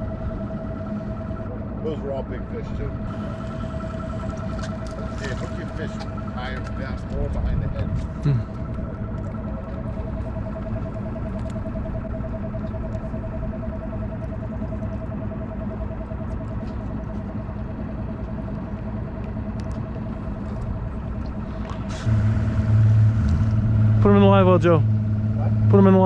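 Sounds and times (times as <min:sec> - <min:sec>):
outboard motor whining: 0:00.0 - 0:26.0.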